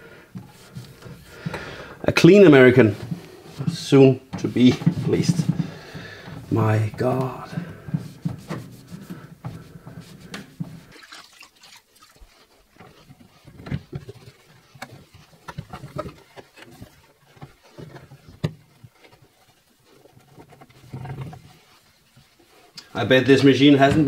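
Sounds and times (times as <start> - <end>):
cloth scrubbing sheet metal: 0.4 - 24.0.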